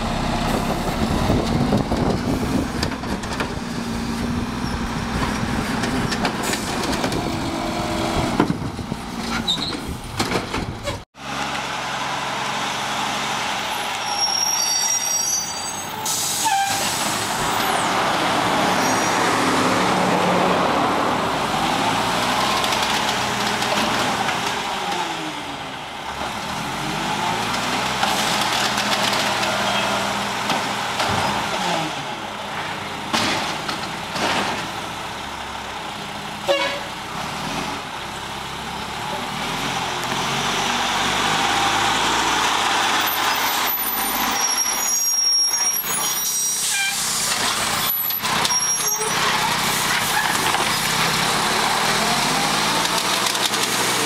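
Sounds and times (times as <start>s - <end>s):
garbage truck diesel engine: 0.0s - 54.0s.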